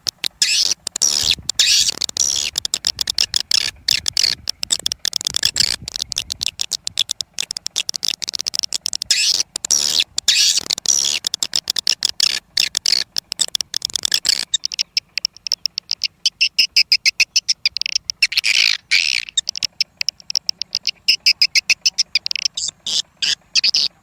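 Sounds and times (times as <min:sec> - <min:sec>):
swiftlets chirping: 0:00.0 - 0:24.0.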